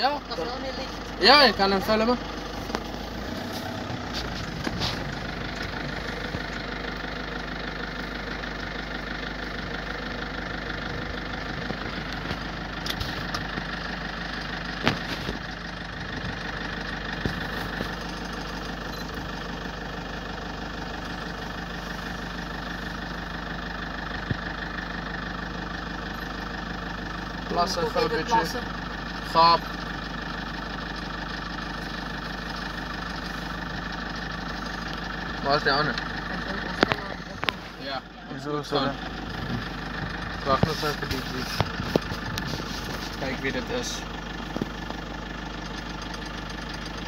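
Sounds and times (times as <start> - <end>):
car engine idling: 0.0 - 47.0.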